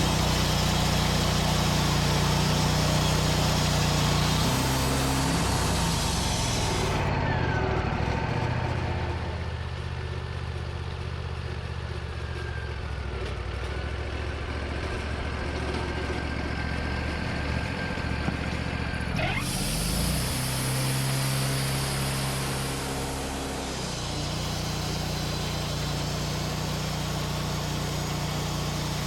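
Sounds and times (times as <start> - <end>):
sawmill engine running: 0.0 - 29.0.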